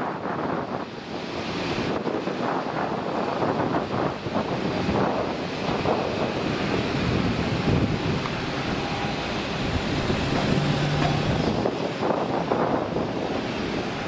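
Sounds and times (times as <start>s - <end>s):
jet engines on approach: 0.0s - 14.0s
wind buffeting microphone: 0.0s - 14.0s.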